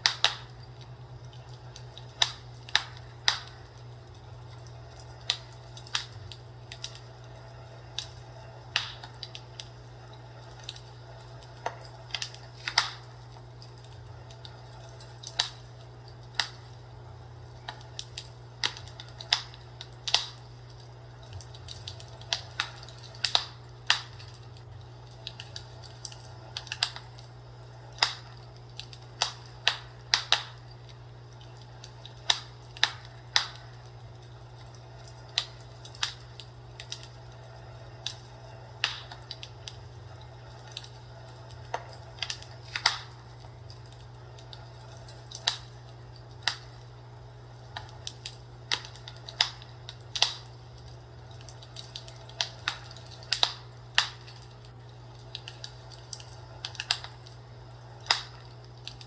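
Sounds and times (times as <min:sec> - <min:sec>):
steady low hum: 0:00.0 - 0:59.0
wood fire crackling: 0:00.0 - 0:59.0.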